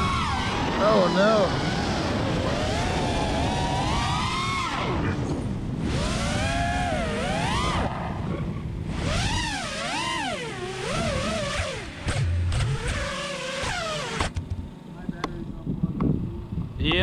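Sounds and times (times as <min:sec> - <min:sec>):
quadcopter motors buzzing whine: 0:00.0 - 0:17.0.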